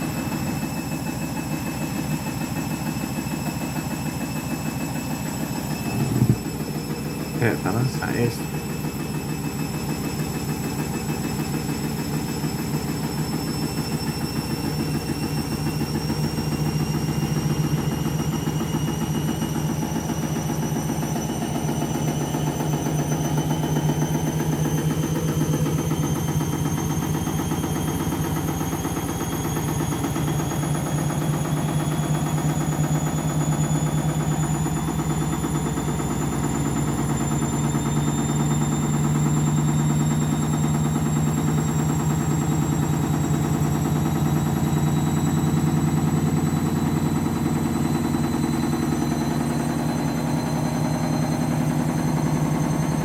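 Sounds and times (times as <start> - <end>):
motor whine rising in pitch: 0.0 - 53.0
washing machine drum pulsing: 0.0 - 53.0.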